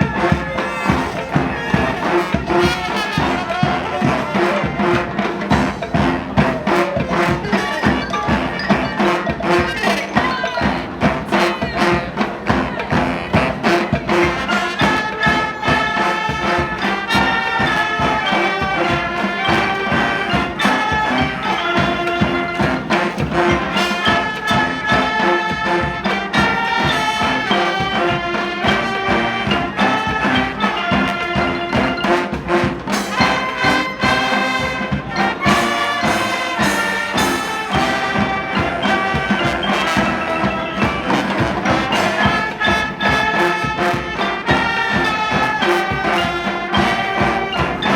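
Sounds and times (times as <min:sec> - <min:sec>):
brass horns playing melody: 0:00.0 - 0:47.9
steady drums: 0:00.0 - 0:47.9.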